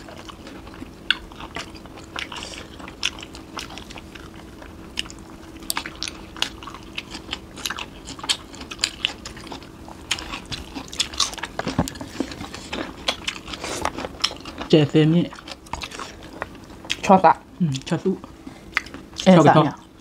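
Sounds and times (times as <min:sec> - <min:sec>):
people chewing crunchy food: 0:00.0 - 0:20.0.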